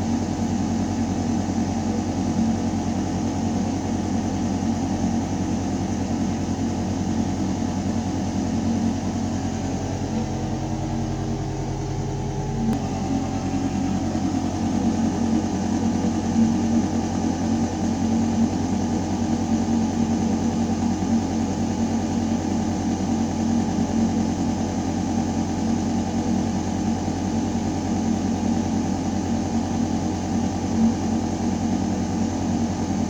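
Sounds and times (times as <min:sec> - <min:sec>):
ventilation system humming: 0:00.0 - 0:33.0.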